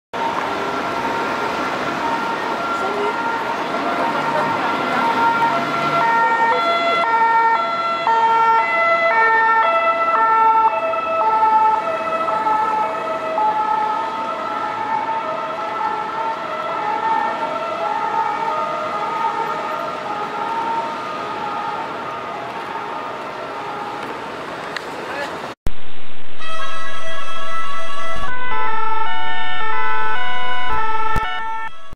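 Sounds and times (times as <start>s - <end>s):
two-tone ambulance siren: 0.1s - 24.3s, 26.2s - 31.9s.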